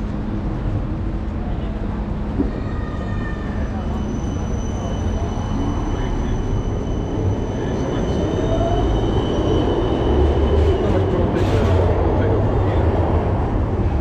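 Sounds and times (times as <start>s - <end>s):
tram low rumble: 0.0s - 14.0s.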